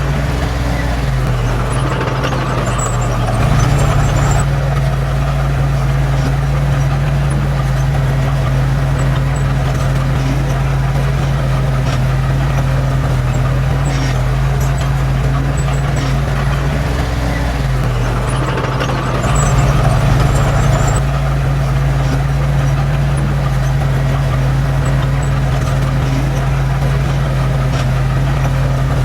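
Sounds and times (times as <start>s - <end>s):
heavy diesel engine humming: 0.0s - 29.0s.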